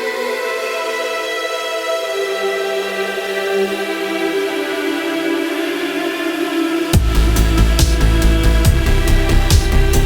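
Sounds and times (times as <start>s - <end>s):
electronic synth pads: 1.6s - 10.0s.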